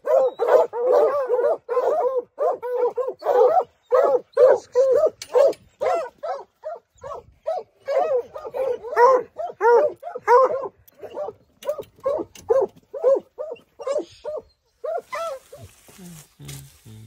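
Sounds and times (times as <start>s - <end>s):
dogs barking: 0.0s - 15.8s.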